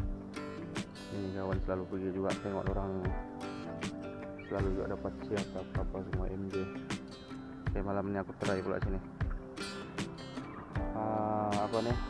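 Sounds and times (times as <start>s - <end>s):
background music with plucked beat: 0.0s - 12.0s.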